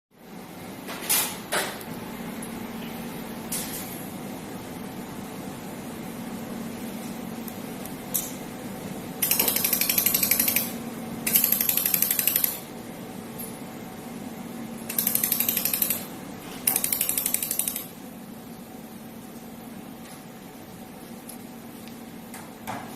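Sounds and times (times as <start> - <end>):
steady machine hum: 0.2 - 22.9.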